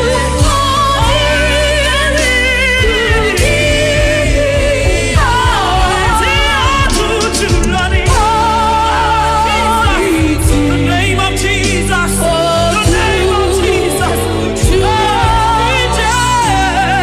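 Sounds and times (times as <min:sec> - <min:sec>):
band with bass and drums: 0:00.0 - 0:17.0
person singing with vibrato: 0:00.0 - 0:17.0.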